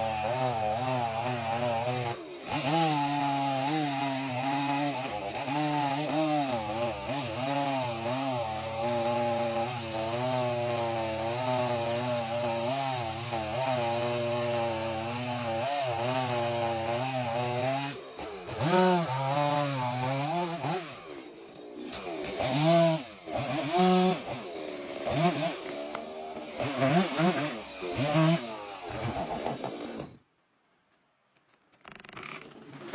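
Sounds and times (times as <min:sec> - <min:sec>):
chainsaw cutting wood: 0:00.0 - 0:30.3, 0:31.8 - 0:32.9.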